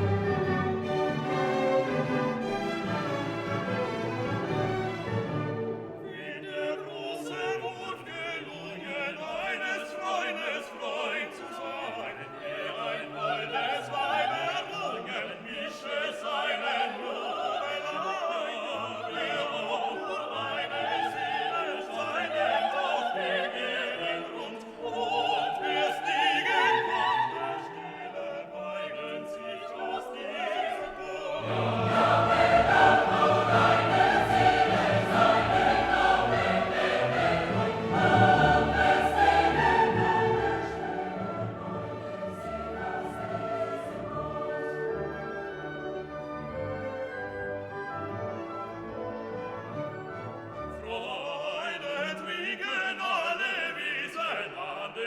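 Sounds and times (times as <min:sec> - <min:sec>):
choir singing: 0:00.0 - 0:55.0
classical orchestral music: 0:00.0 - 0:55.0.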